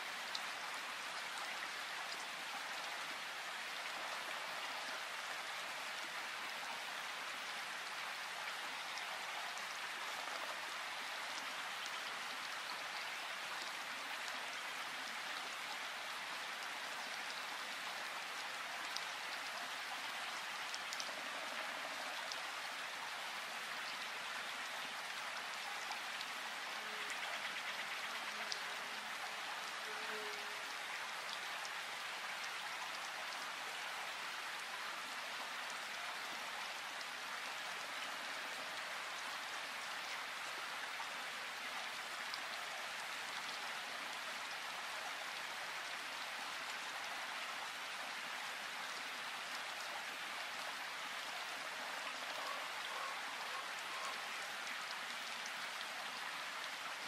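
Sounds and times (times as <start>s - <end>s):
rain hissing in forest: 0.0s - 57.0s.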